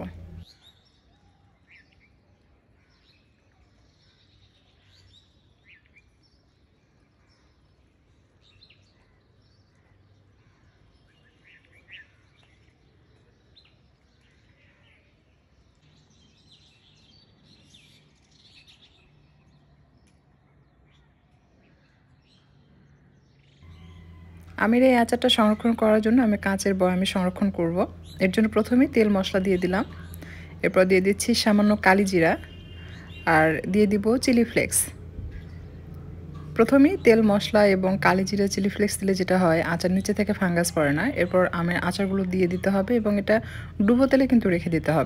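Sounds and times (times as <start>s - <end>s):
faint bird chirps: 0.0s - 37.8s.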